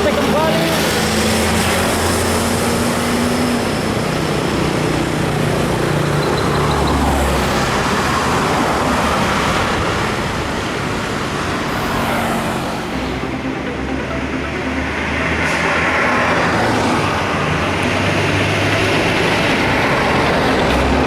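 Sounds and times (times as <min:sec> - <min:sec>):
diesel engines droning: 0:00.0 - 0:21.0
road noise rushing: 0:00.0 - 0:21.0.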